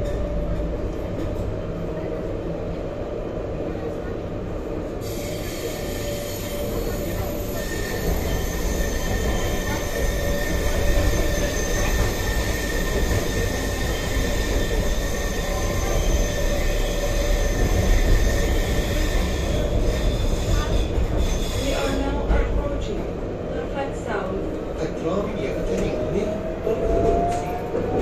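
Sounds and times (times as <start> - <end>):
tram rumble: 0.0 - 28.0.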